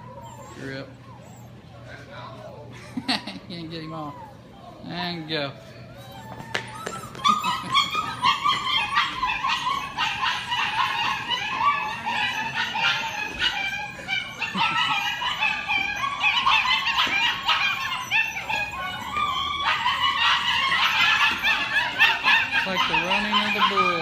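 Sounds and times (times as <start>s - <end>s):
puppies yipping and barking: 0.0s - 24.0s.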